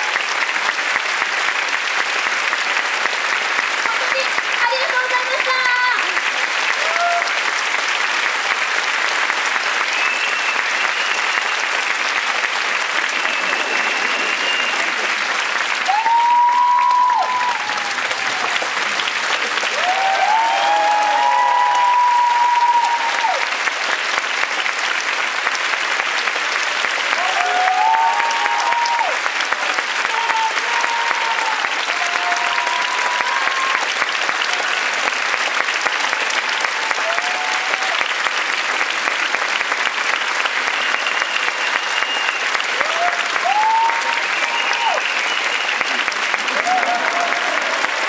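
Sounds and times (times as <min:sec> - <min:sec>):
audience applauding: 0:00.0 - 0:48.0.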